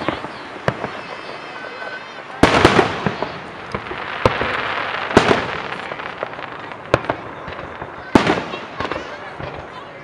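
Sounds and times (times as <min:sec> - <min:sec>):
small firework pops: 0:00.0 - 0:09.9
fireworks bangs: 0:00.0 - 0:10.0.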